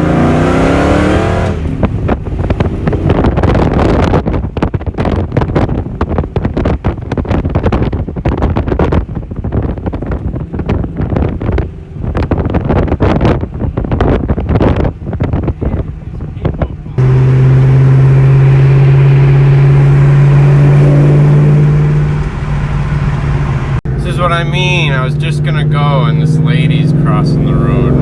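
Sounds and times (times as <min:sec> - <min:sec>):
car engine droning under load: 0:00.0 - 0:28.0
wind buffeting microphone: 0:00.0 - 0:28.0.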